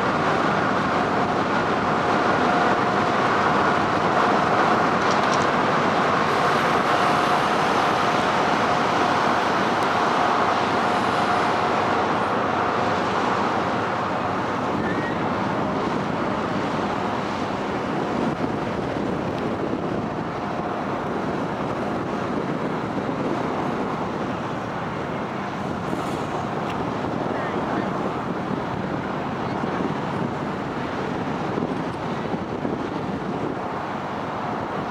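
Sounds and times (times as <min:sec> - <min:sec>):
ship engines rumbling: 0:00.1 - 0:34.9.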